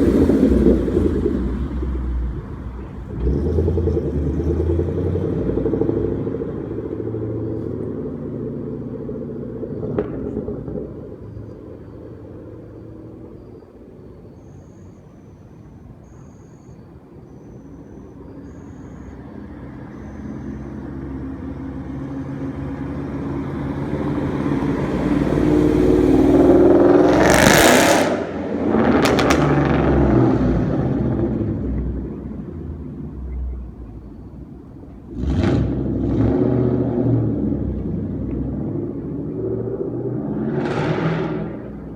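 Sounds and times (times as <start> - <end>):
car engine with loud exhaust: 0.0 - 41.9.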